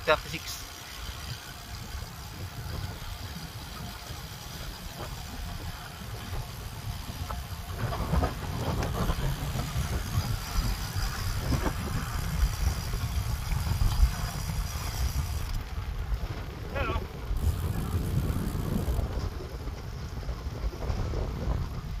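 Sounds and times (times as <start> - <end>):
wind buffeting microphone: 0.1 - 22.0.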